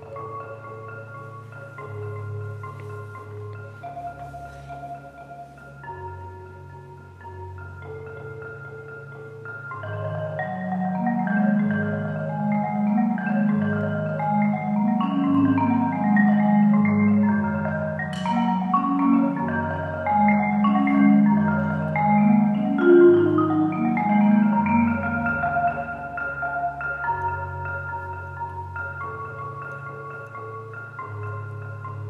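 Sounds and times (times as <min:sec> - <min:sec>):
marimba playing: 0:00.0 - 0:32.0.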